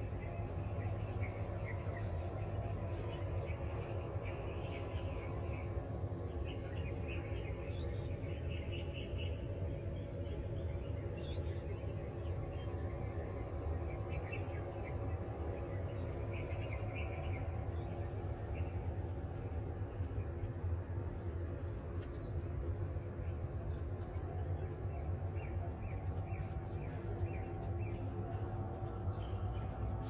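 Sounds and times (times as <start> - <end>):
low outdoor rumble: 0.0 - 30.0
small birds chirping: 0.0 - 30.0.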